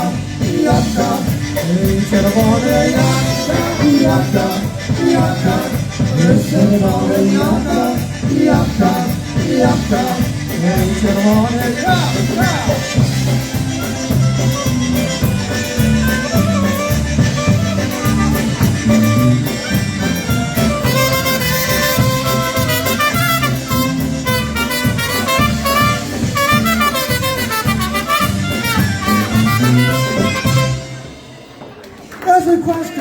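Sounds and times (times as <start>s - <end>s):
polka band with horns: 0.0s - 33.0s.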